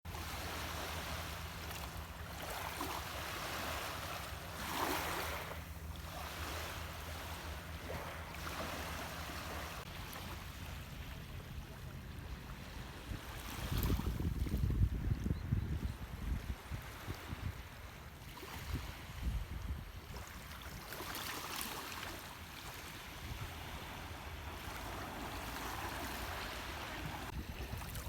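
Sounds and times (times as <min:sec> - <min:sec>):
lake waves breaking on shore: 0:00.1 - 0:14.8, 0:16.5 - 0:28.0.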